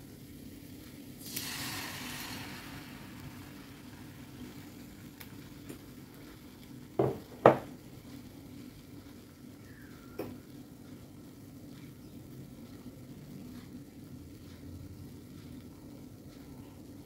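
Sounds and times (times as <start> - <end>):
egg frying in a pan: 0.0 - 17.0.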